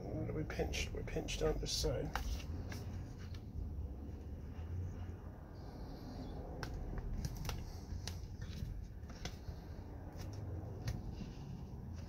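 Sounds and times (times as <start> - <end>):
low steady hum: 0.0 - 12.0
light clicks and scuffs: 1.4 - 12.0.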